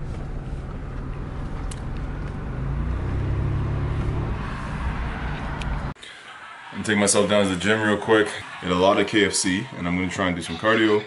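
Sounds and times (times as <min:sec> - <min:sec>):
car engine and road noise: 0:00.0 - 0:09.1.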